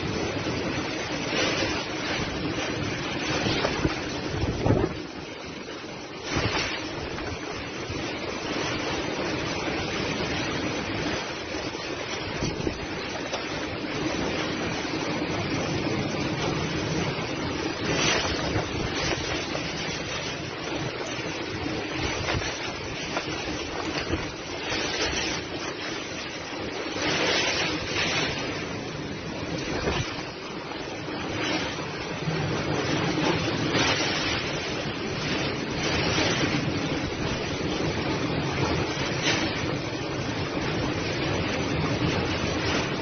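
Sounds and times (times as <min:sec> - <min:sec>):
driving rain: 0:00.0 - 0:43.0
storm wind gusting: 0:00.0 - 0:43.0
wind buffeting microphone: 0:00.0 - 0:43.0.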